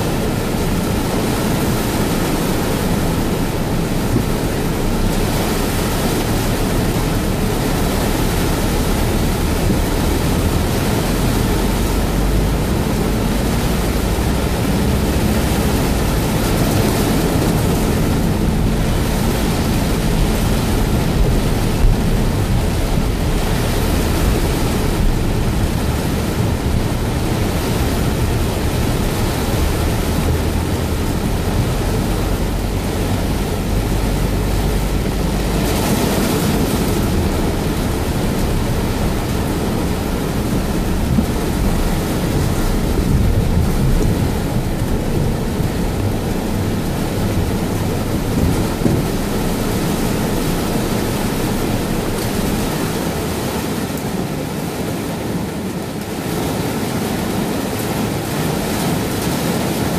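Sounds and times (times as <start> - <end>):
deep rumble: 0.0 - 53.4
heavy rain on car roof: 0.0 - 59.9.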